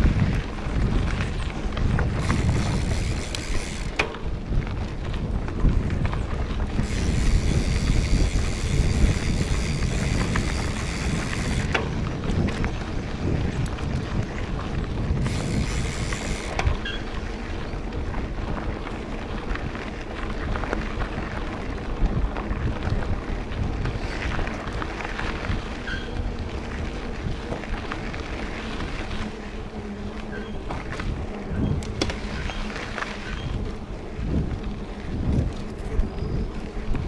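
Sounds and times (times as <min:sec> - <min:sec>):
wind noise on microphone: 0:00.0 - 0:37.0.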